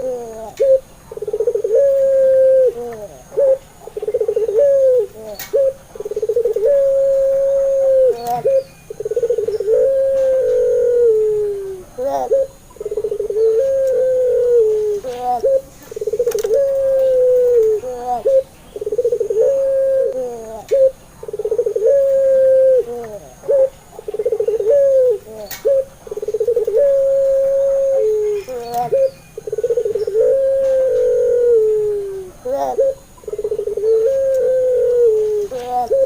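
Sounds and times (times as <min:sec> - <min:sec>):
dove cooing: 0:00.0 - 0:36.0.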